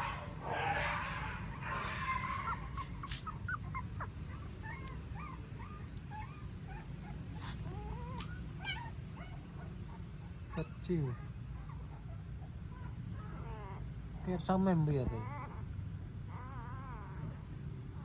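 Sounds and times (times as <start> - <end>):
puppies squeaking and whimpering: 1.6 - 17.5.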